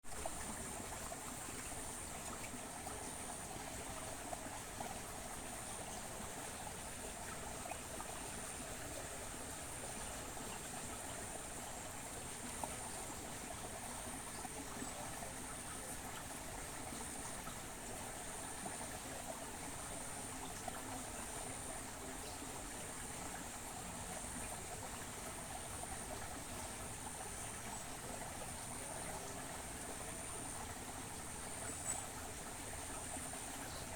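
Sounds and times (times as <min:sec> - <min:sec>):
trickle of running water: 0:00.1 - 0:33.9.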